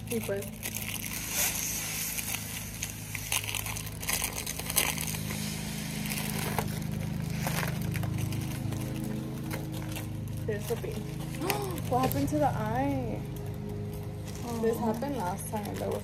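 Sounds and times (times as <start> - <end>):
foil balloon crinkling: 0.0 - 16.0
low steady hum: 0.0 - 16.0.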